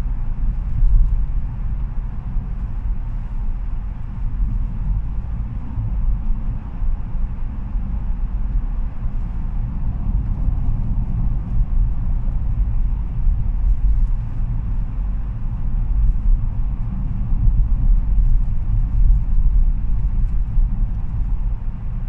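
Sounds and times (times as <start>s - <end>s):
diesel engine rumble: 0.0s - 22.0s
road noise: 0.0s - 22.0s.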